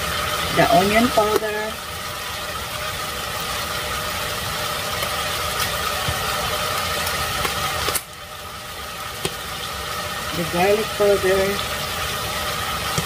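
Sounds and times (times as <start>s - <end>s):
food sizzling in pot: 0.0s - 13.0s.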